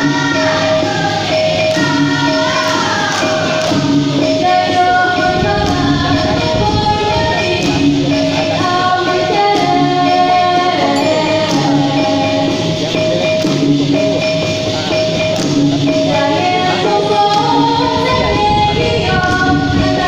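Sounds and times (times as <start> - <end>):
woman singing into a microphone: 0.0 - 12.8, 15.9 - 20.0
light hand percussion: 0.0 - 20.0.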